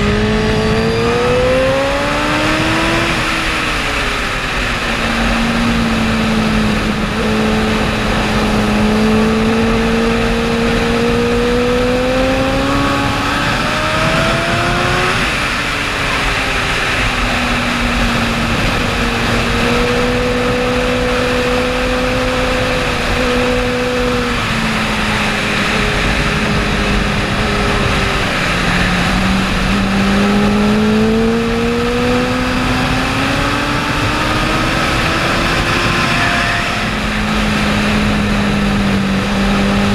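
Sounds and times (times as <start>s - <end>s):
motorcycle engine: 0.0s - 39.9s
wind rushing: 0.0s - 39.9s.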